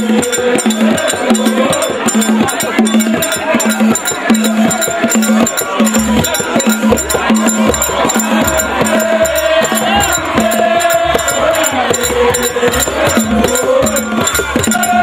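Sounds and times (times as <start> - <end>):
steady drum beat: 0.0 - 15.0
voices singing together: 0.0 - 15.0.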